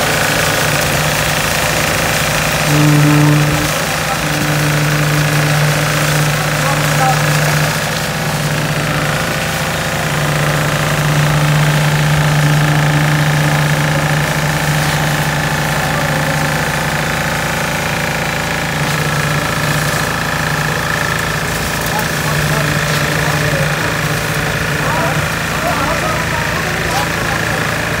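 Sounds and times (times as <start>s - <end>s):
machinery engine humming: 0.0s - 28.0s.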